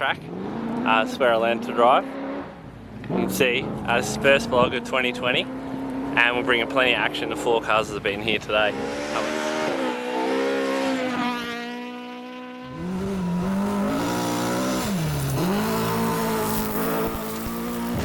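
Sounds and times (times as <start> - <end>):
rally car engines at full revs: 0.0 - 18.0.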